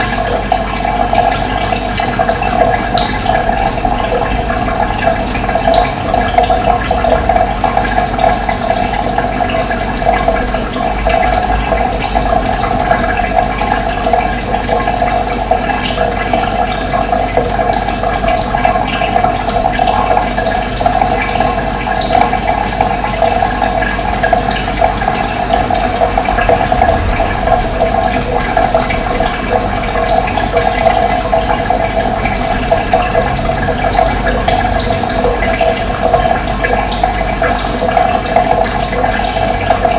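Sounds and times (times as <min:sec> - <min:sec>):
running water rushing and gurgling: 0:00.0 - 0:39.9.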